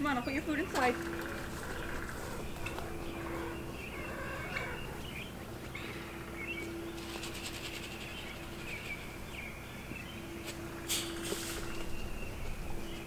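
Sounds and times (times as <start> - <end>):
birds chirping: 0.0 - 13.0
faint steady hum: 0.0 - 13.0.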